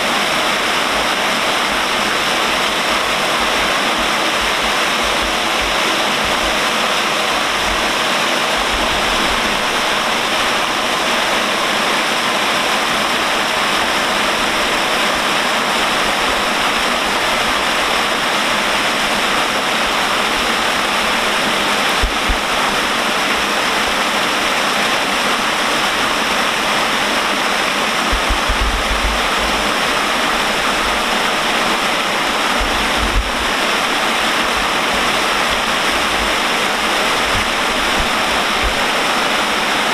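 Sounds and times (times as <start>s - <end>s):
water falling onto river: 0.0s - 39.9s.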